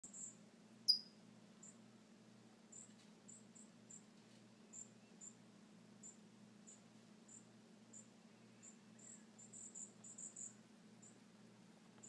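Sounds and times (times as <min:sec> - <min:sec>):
small birds chirping: 0:00.0 - 0:01.9, 0:02.7 - 0:11.3.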